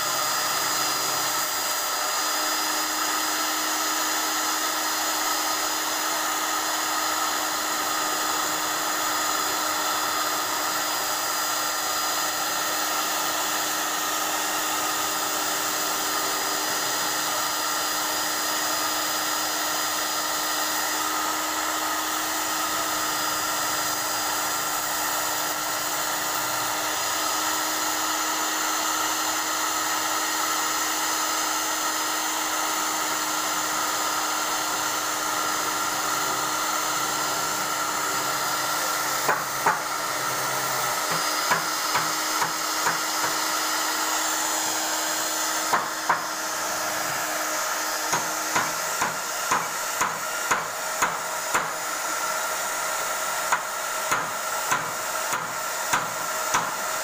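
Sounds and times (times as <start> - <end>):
belt sander whining: 0.0 - 57.0.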